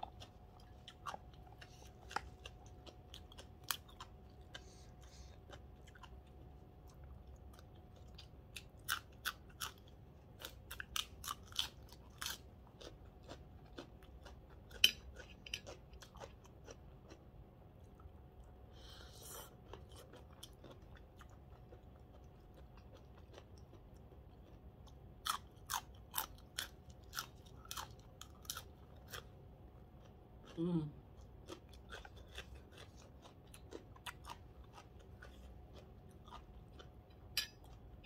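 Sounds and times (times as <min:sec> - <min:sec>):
chewing crunchy vegetables: 0:00.0 - 0:38.0.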